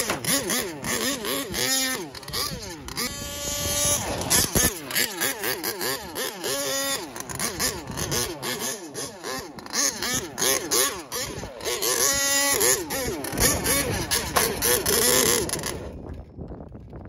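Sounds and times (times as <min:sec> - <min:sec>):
small two-stroke engine revving: 0:00.0 - 0:16.4.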